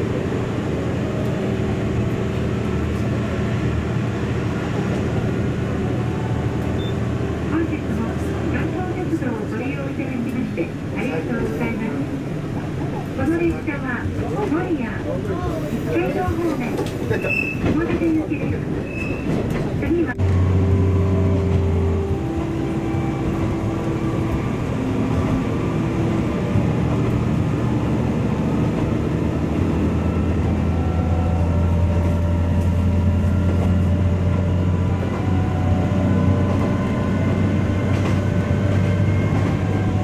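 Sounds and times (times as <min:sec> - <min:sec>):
diesel railcar engine humming: 0:00.0 - 0:40.0
train on rails: 0:00.0 - 0:40.0.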